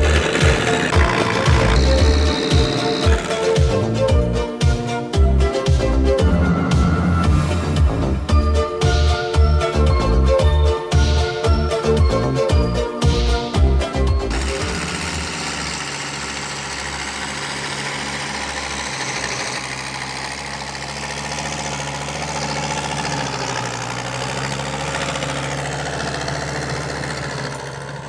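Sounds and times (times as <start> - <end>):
tractor diesel engine running: 0.0 - 9.0, 13.0 - 28.0.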